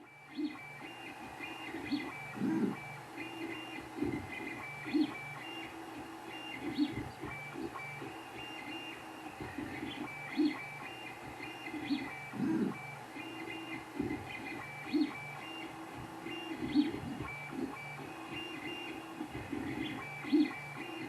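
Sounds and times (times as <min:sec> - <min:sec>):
printer stepper motors whining: 0:00.0 - 0:21.0.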